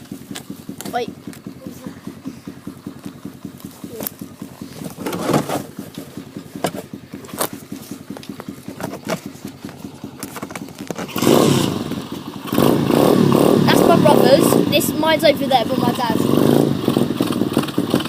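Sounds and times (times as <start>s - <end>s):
dirt bike engine idling: 0.0s - 18.0s.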